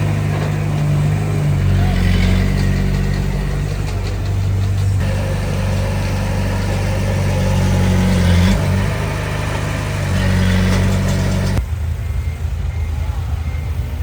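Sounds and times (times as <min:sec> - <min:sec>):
earthmoving machine diesel engine revving: 0:00.0 - 0:14.0.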